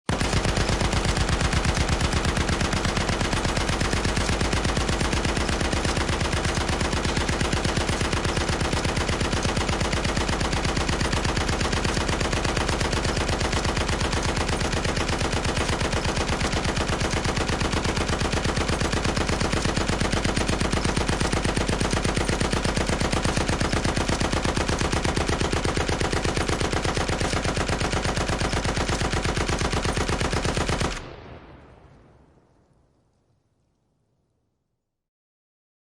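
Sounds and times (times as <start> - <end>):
machine gun firing: 0.1 - 32.2.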